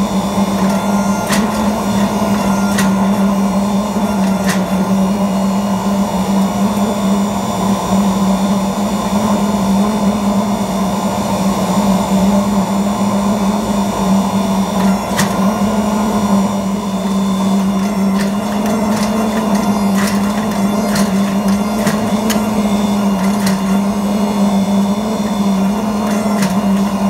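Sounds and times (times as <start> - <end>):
forge press humming: 0.0 - 27.0.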